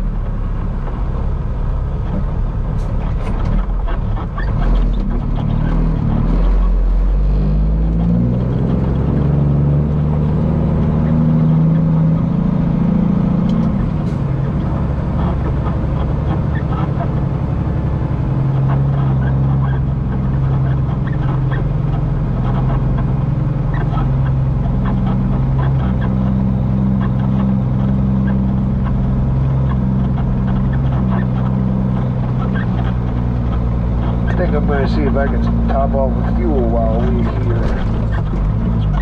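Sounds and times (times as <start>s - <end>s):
truck diesel engine pulling: 0.0s - 39.0s.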